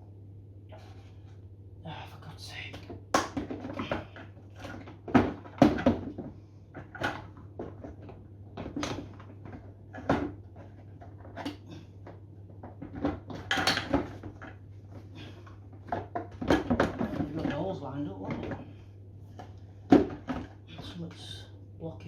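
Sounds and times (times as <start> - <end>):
low steady hum: 0.0 - 22.0
plastic parts knocking and clicking: 2.8 - 18.8, 19.4 - 21.0.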